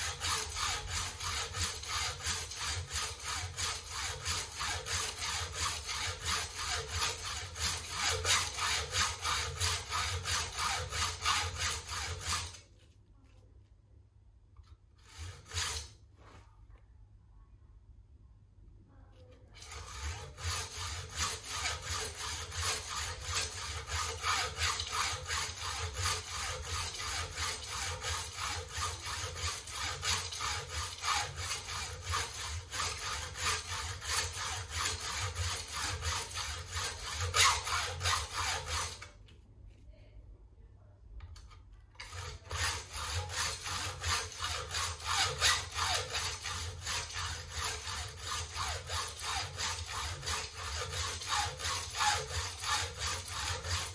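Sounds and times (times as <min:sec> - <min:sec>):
hacksaw cutting metal: 0:00.0 - 0:12.6, 0:15.0 - 0:16.0, 0:19.6 - 0:39.1, 0:42.0 - 0:53.9.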